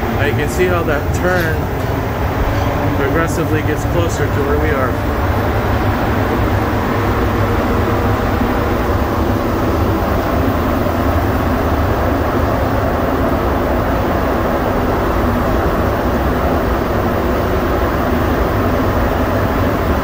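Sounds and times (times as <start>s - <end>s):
train rumbling in tunnel: 0.0s - 20.0s.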